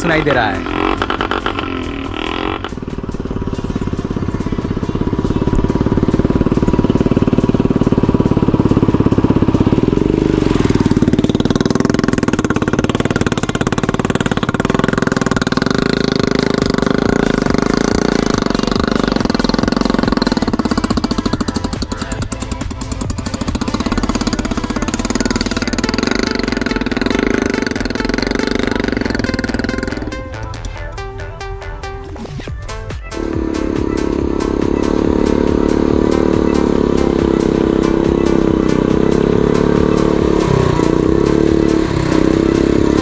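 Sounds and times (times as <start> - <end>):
motorcycle engine thumping: 0.0 - 43.0.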